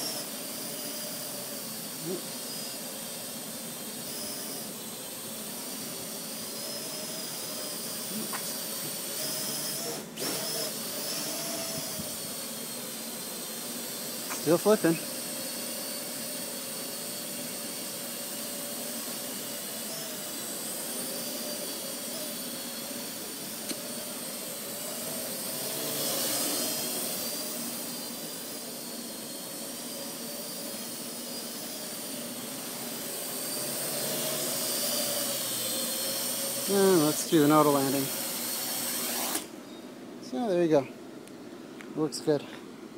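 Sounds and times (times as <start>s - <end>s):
quadcopter drone whine: 0.0s - 40.5s.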